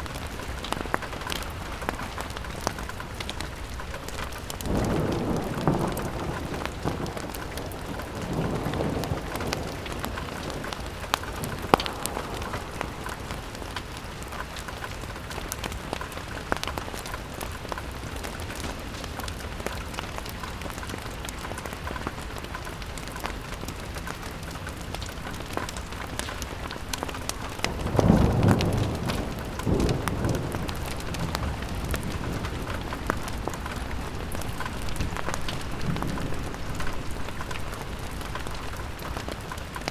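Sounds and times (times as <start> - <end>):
fire crackling: 0.0 - 39.9
rain pattering on a window: 0.0 - 39.9.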